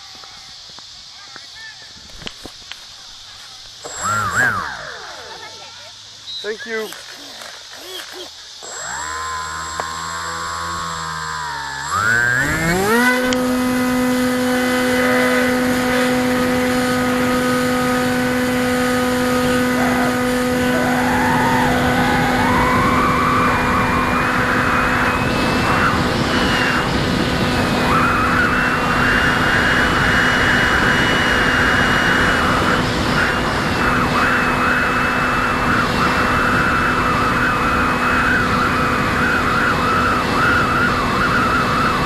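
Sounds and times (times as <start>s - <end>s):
electric motor propeller whine: 2.1s - 42.0s
wind noise: 6.8s - 42.0s.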